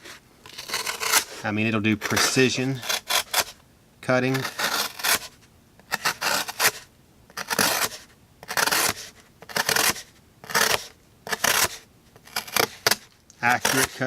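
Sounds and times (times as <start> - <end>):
knife slicing through jute: 0.5 - 3.6, 4.3 - 14.0.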